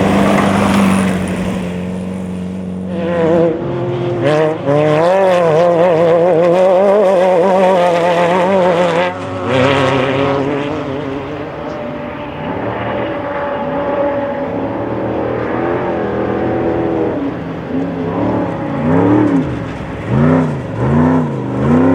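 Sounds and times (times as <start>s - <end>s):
race vehicle engine revving high: 0.0s - 21.9s.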